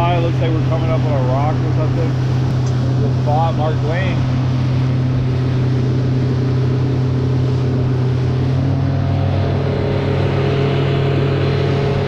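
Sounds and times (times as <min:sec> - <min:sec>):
outboard motor running: 0:00.0 - 0:12.0
water rushing: 0:00.0 - 0:12.0
wind: 0:00.0 - 0:12.0.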